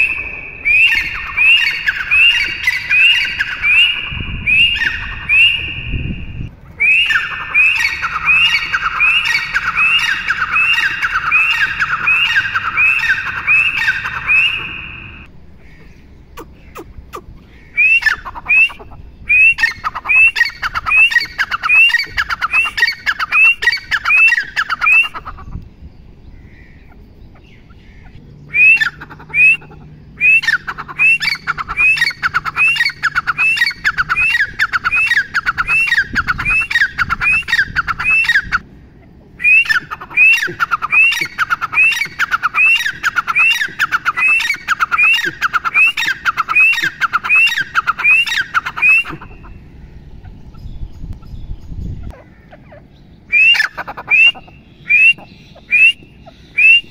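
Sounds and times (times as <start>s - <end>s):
francolin calling: 0.0s - 25.6s, 26.3s - 51.5s, 52.1s - 56.9s.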